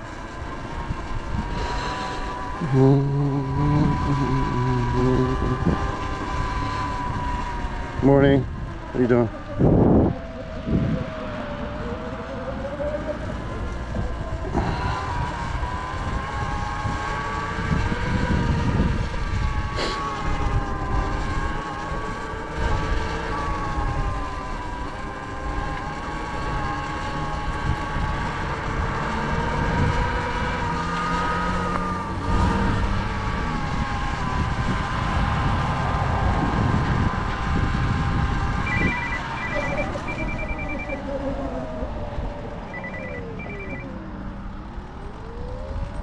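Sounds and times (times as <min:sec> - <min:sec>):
electric dirt bike motor whining: 0:00.3 - 0:46.0.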